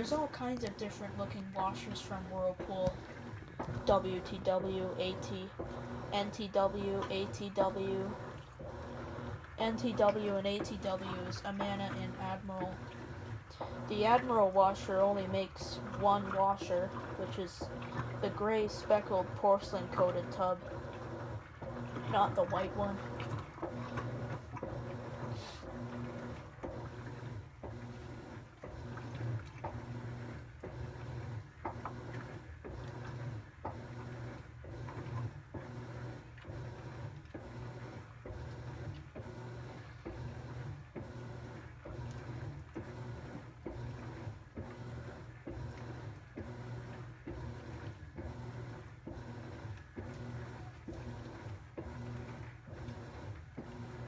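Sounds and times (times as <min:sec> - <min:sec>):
washing machine agitating: 0:00.0 - 0:54.0.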